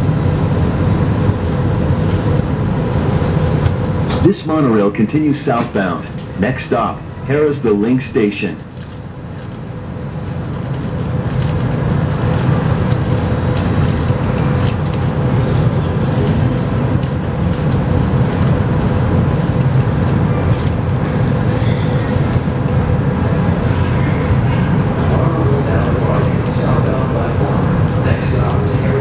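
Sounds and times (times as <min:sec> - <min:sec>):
monorail equipment hum and whir: 0:00.0 - 0:29.0.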